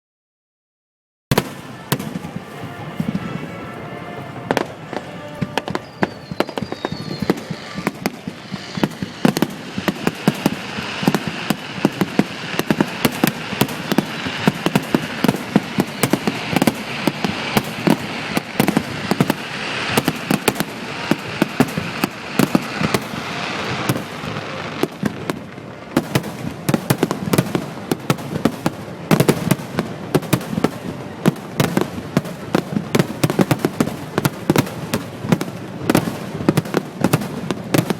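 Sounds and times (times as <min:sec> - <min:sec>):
fireworks bangs: 0:01.3 - 0:37.9
fireworks hiss: 0:01.3 - 0:37.9.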